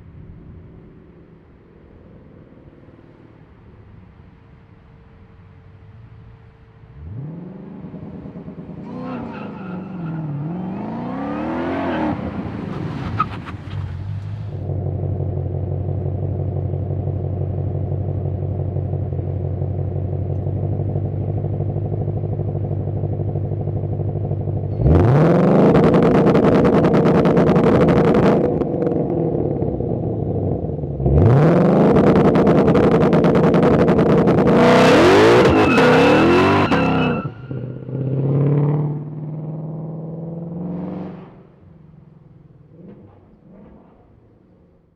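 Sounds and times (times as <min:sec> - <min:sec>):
car engine revving and idling: 0:05.8 - 0:44.9.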